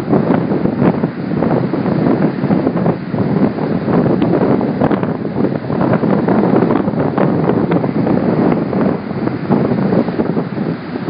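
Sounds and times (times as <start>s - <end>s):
surf: 0.0s - 11.0s
wind buffeting microphone: 0.0s - 11.0s.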